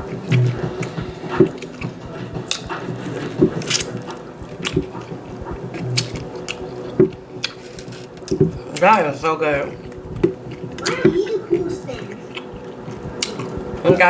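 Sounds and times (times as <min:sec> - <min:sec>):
wet chewing and smacking: 0:00.0 - 0:14.0.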